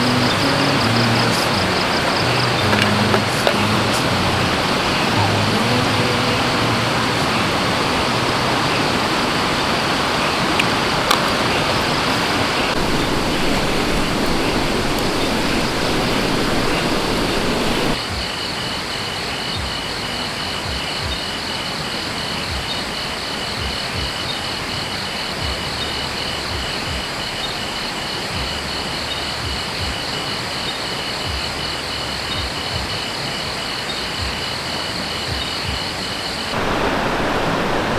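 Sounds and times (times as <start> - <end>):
insects trilling: 0.0 - 37.9
stream rushing: 0.0 - 37.9.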